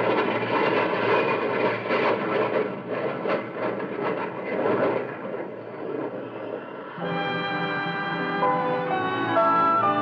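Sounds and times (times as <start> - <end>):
jet aeroplane roar passing overhead: 0.0 - 10.0.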